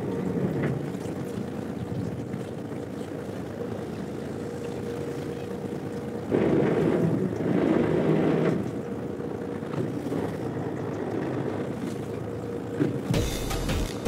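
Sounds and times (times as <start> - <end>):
wind: 0.0 - 13.2
boat engine hum: 0.0 - 14.0
waves: 0.0 - 14.0.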